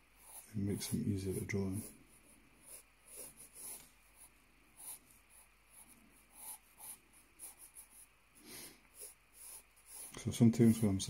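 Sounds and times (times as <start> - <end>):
pencil scratching on paper: 0.0 - 8.1, 8.9 - 11.0.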